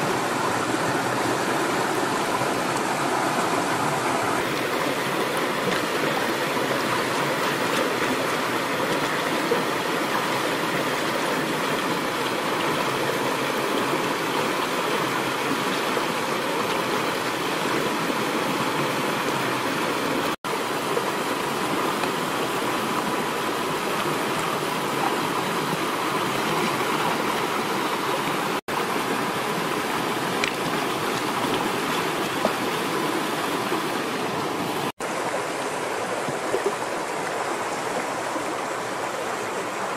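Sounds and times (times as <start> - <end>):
fast river over rocks: 0.0 - 39.9.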